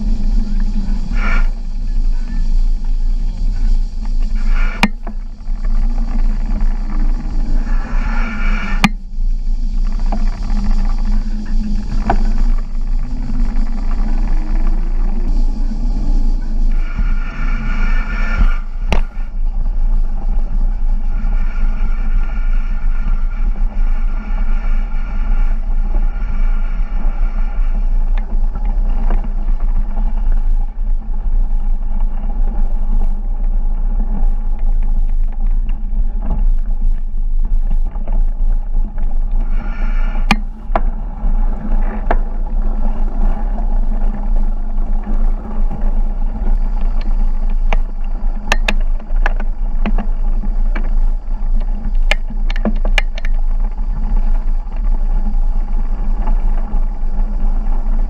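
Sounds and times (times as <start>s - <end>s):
wind rumble: 0.0s - 58.0s.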